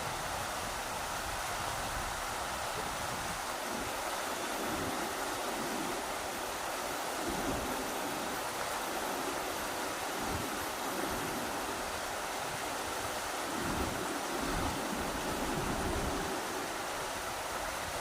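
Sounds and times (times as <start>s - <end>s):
low rumbling wind gusts: 0.0s - 18.0s
rushing river water: 0.0s - 18.0s.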